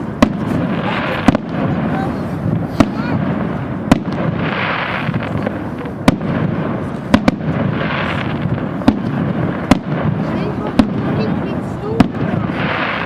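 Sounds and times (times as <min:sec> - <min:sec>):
distant fireworks rumble: 0:00.0 - 0:13.0
hissing crackle: 0:00.0 - 0:13.0
loud firework bangs: 0:00.0 - 0:13.0.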